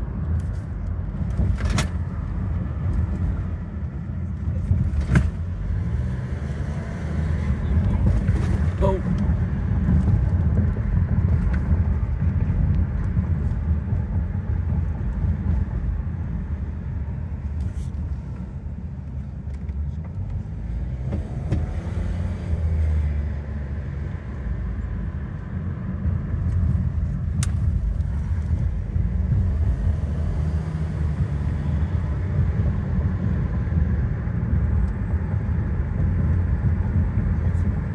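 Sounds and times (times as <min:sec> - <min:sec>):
engine and tyre rumble: 0:00.0 - 0:37.9.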